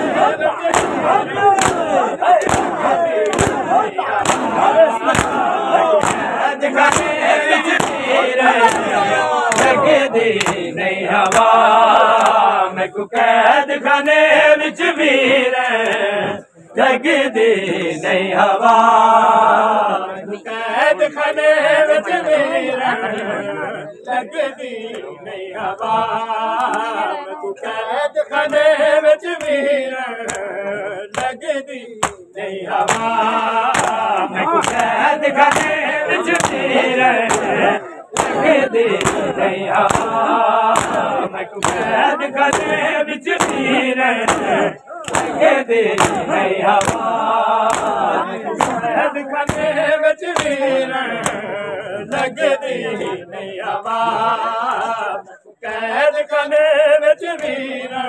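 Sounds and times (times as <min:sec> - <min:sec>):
rhythmic chest-beating slaps: 0:00.0 - 0:19.8, 0:20.8 - 0:23.8, 0:24.4 - 0:58.0
men chanting a lament: 0:00.0 - 0:58.0.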